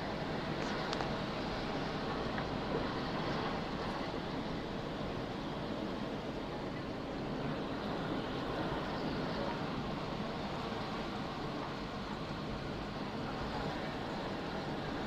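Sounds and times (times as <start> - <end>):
heavy rain and strong wind: 0.0 - 15.0.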